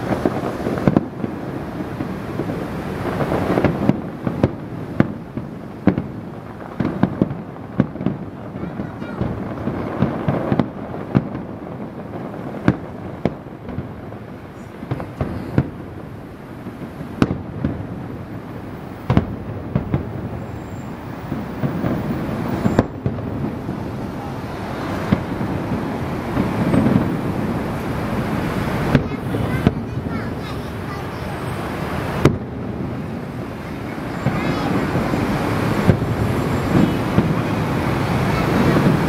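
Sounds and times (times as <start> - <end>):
fireworks rumble and crackle: 0.0 - 39.0
fireworks sharp bangs: 0.0 - 39.0.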